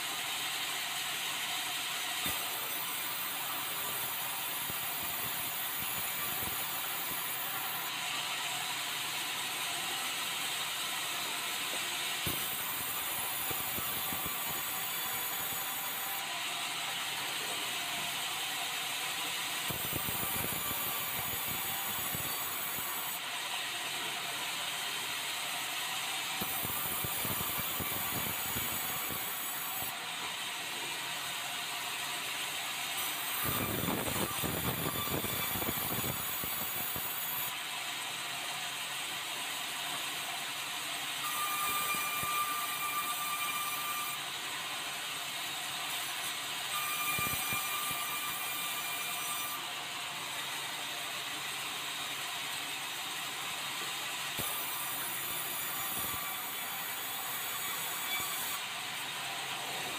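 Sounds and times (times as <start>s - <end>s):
band saw cutting timber: 0.0s - 37.6s, 40.7s - 44.6s, 45.5s - 49.8s, 54.1s - 59.9s.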